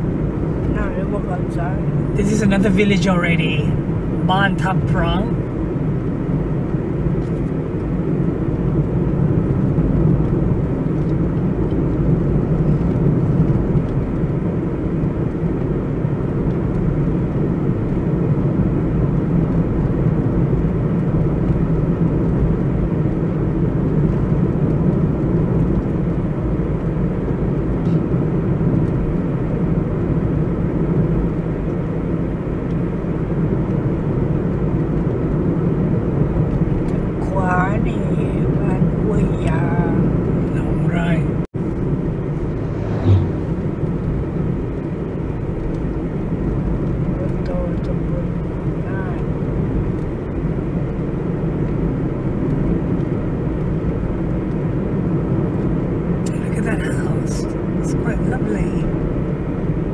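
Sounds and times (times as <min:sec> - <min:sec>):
car engine and tyres droning: 0:00.0 - 0:59.9.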